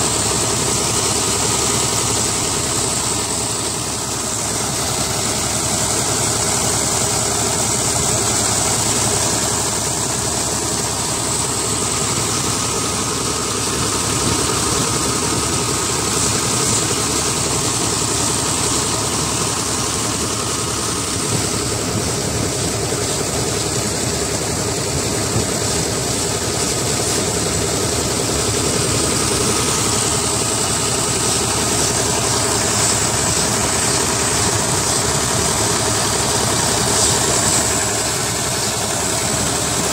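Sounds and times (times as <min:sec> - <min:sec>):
tractor diesel engine running: 0:00.0 - 0:39.9
water gushing into channel: 0:00.0 - 0:39.9.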